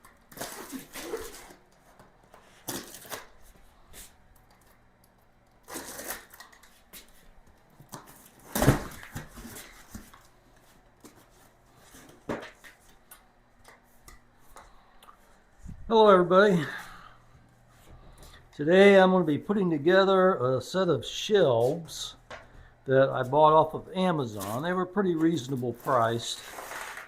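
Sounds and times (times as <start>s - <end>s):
rustling and handling noises: 0.0s - 18.6s, 21.5s - 27.0s.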